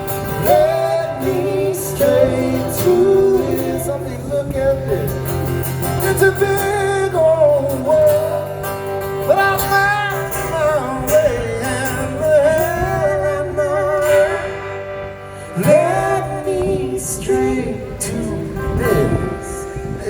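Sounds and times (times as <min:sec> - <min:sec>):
acoustic guitar: 0:00.0 - 0:20.0
person singing country song: 0:00.0 - 0:20.0.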